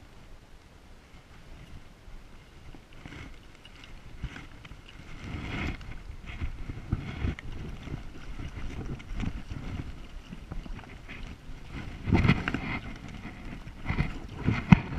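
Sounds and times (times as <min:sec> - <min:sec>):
wind rumble on microphone: 0:00.0 - 0:14.9
water lapping and sloshing: 0:01.4 - 0:14.9
crackly splashes: 0:02.4 - 0:14.9.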